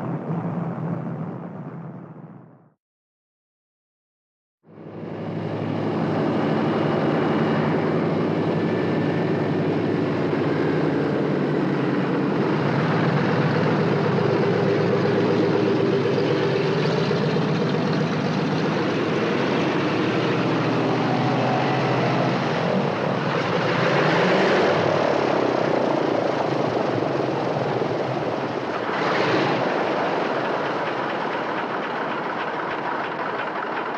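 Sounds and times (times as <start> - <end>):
airplane engine running: 4.7 - 33.9.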